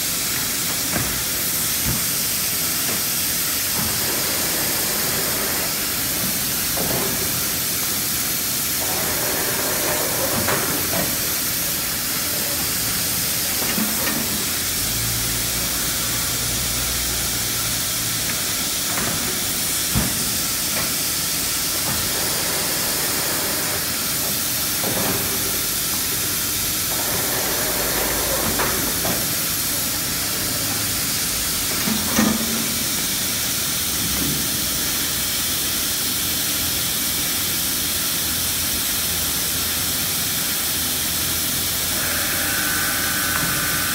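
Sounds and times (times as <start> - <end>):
machinery hiss: 0.0 - 43.9.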